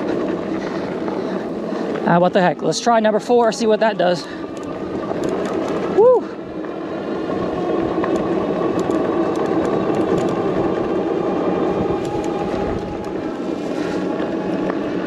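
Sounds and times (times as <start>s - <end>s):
electric hub motor whining: 0.0s - 15.0s
tyres on dirt road: 0.0s - 15.0s.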